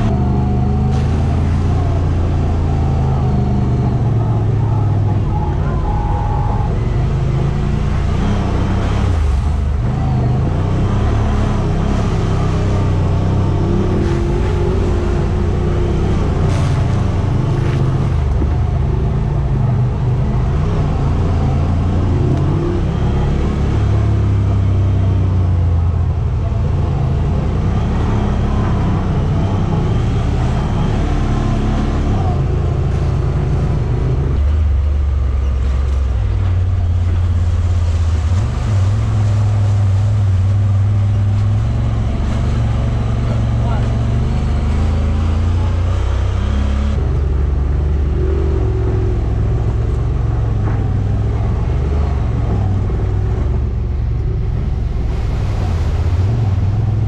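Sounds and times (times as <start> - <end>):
utility vehicle engine revving: 0.0 - 57.0.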